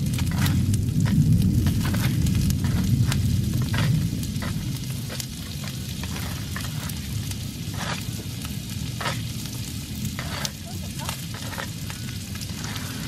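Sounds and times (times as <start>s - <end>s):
butter sizzling on griddle: 0.0s - 13.0s
crackling pops: 0.0s - 13.0s
low steady rumble: 0.0s - 13.0s.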